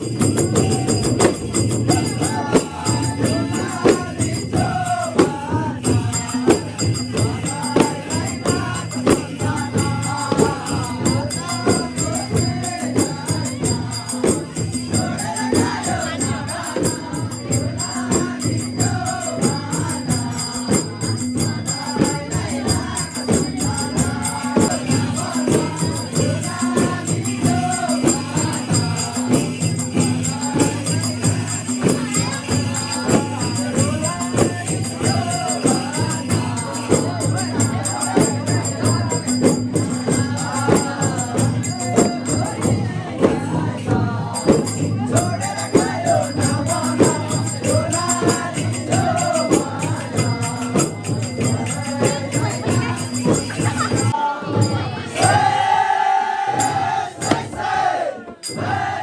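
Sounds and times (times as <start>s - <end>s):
frame drums beating: 0.0s - 55.7s, 56.4s - 59.0s
men singing in unison: 0.0s - 59.0s.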